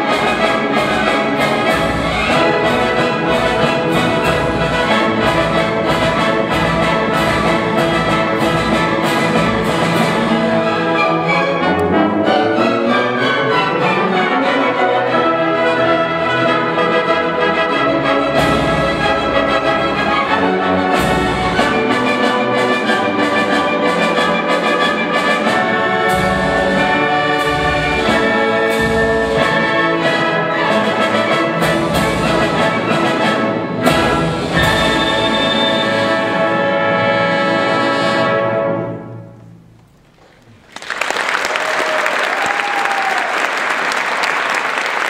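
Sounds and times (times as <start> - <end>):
brass playing: 0.0 - 39.4.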